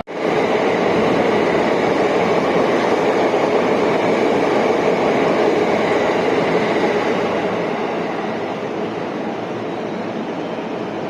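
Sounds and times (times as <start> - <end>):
train wheels running: 0.1 - 11.0.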